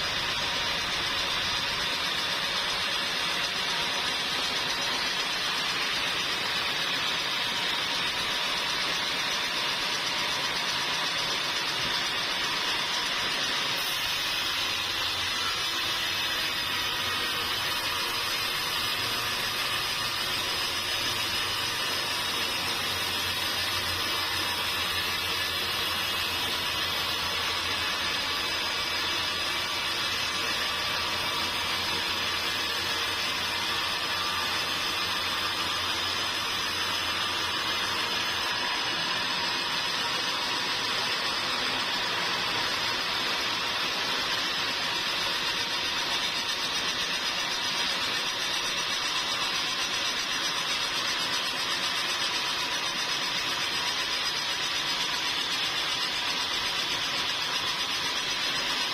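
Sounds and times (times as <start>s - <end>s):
sawmill machinery running: 0.0s - 58.9s.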